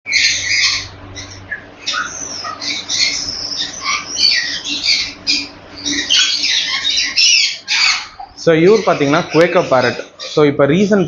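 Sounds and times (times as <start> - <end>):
parrot squawking harshly: 0.1 - 10.5.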